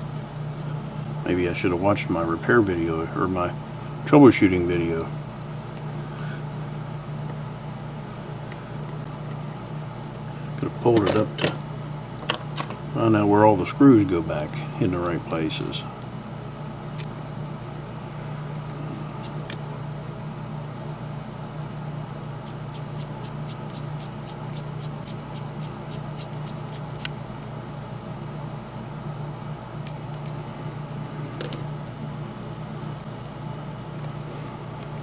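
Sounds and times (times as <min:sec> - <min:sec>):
low background hum: 0:00.0 - 0:35.0.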